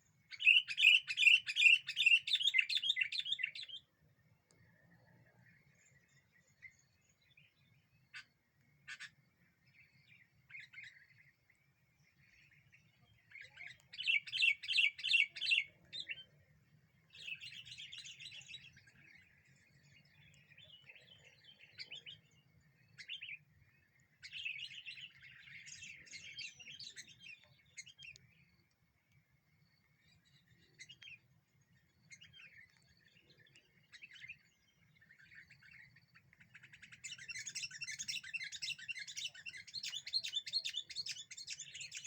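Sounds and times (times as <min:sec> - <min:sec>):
bird chattering song: 0:00.3 - 0:03.9, 0:05.4 - 0:28.7, 0:29.8 - 0:42.0.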